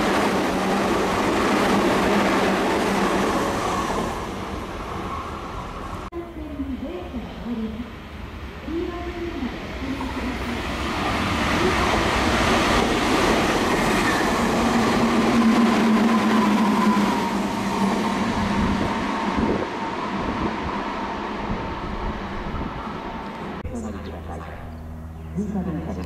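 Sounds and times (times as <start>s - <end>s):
electric train passing at speed: 0.0s - 26.0s.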